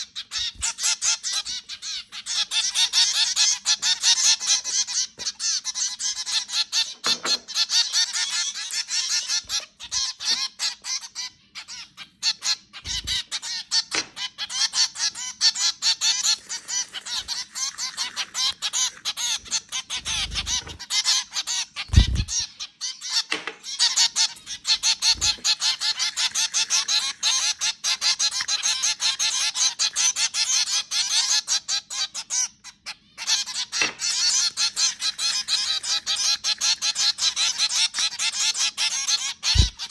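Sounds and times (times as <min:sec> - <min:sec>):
zebra finches calling: 0:00.0 - 0:39.9.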